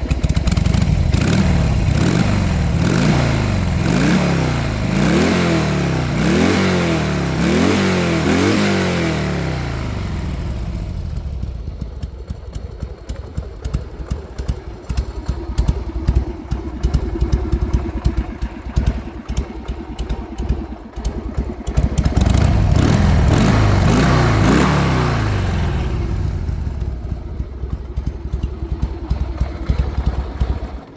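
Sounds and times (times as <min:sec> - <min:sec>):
motorcycle engine revving and idling: 0:00.0 - 0:30.9.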